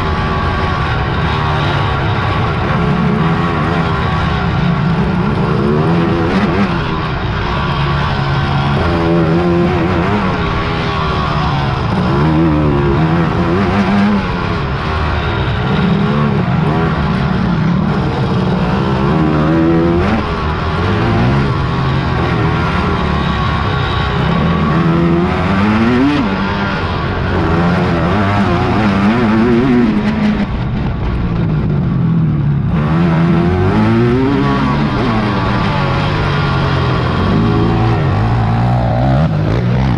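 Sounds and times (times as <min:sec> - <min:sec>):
quad engines racing: 0:00.0 - 0:39.9.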